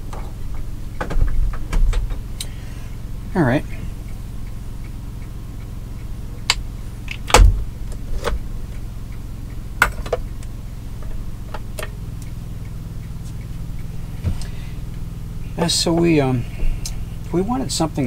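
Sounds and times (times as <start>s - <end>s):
generator and air conditioning hum: 0.0s - 18.0s.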